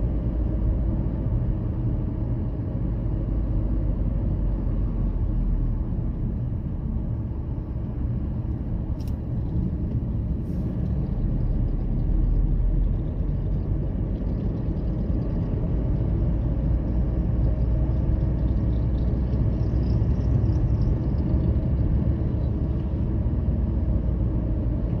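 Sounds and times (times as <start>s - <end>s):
road and engine rumble: 0.0s - 25.0s.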